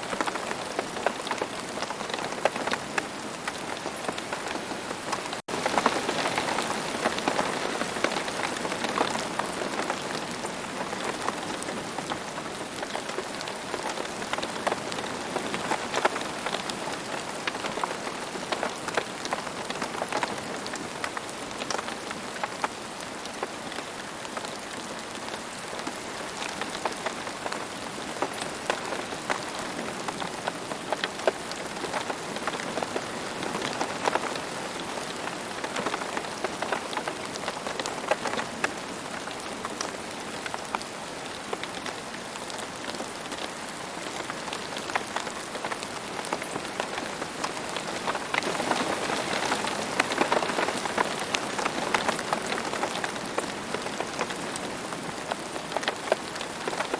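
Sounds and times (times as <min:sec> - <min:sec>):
rain drops on a surface: 0:00.0 - 0:56.9.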